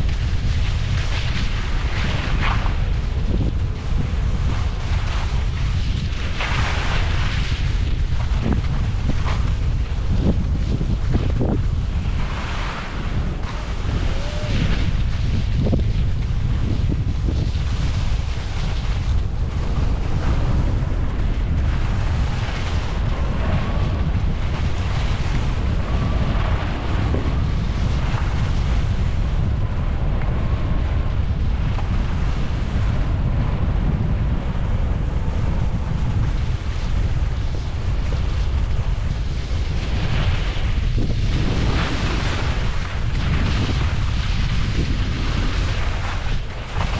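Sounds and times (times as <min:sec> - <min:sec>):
skis carving packed snow: 0:00.0 - 0:46.9
wind buffeting microphone: 0:00.0 - 0:46.9.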